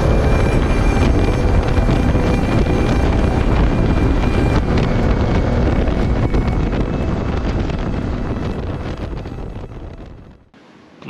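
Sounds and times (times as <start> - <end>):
motorcycle engine running: 0.0 - 10.3
wind buffeting microphone: 0.0 - 10.6.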